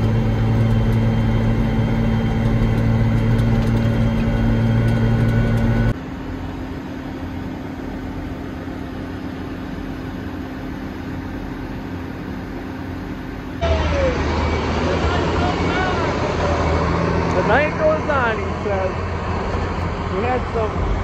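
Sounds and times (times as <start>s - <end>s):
field machinery idling: 0.0s - 21.0s
tractor engine running under load: 0.0s - 21.0s.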